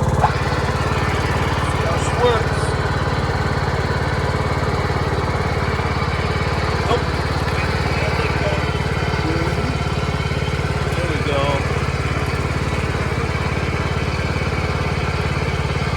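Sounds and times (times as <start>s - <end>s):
garden tractor engine running: 0.0s - 15.9s.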